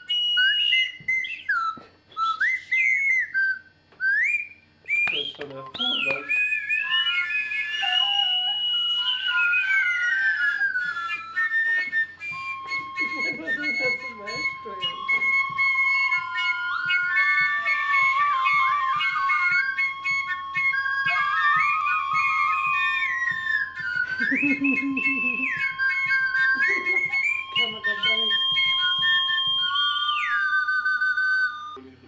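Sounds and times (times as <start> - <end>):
wooden flutes playing: 0.0 - 32.0.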